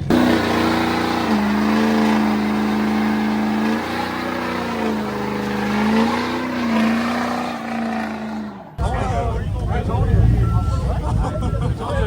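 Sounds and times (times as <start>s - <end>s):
truck engine at high revs: 0.0s - 10.4s.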